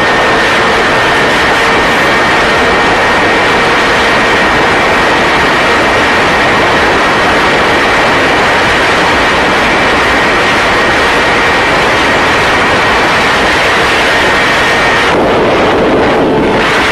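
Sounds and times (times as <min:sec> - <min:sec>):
constant high whine: 0:00.0 - 0:16.9
vehicle roar: 0:00.0 - 0:16.9.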